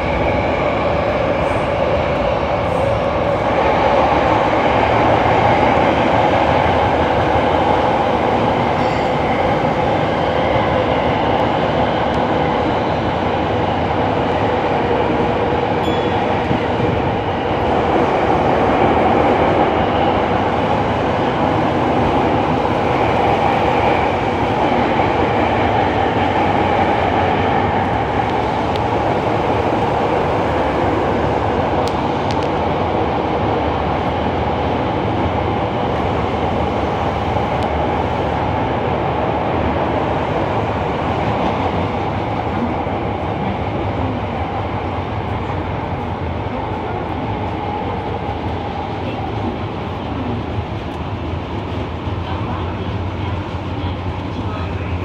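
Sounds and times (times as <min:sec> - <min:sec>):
subway train running in tunnel: 0:00.0 - 0:55.0.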